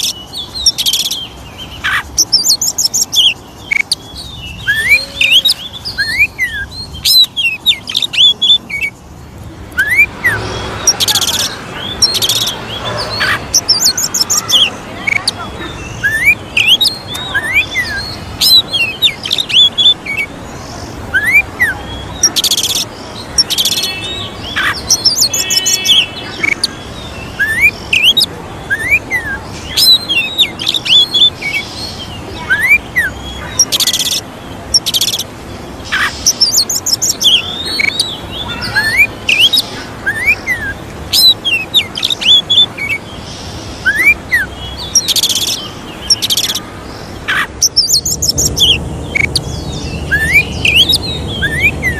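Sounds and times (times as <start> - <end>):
bird singing whistled notes: 0.0 - 9.0, 9.7 - 20.4, 21.1 - 35.3, 35.9 - 43.2, 43.8 - 46.6, 47.3 - 51.9.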